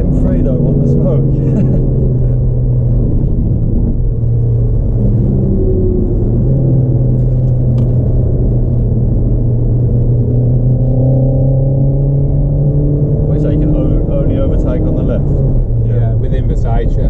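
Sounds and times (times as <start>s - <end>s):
car engine drone inside cabin: 0.0s - 17.0s
road and tyre noise: 0.0s - 17.0s.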